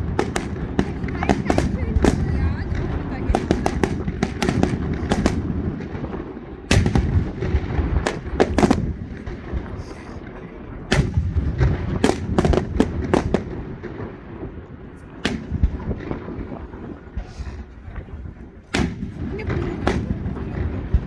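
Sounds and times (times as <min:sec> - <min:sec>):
fireworks bangs: 0:00.0 - 0:21.0
low rumble of echoing reports: 0:00.0 - 0:21.0.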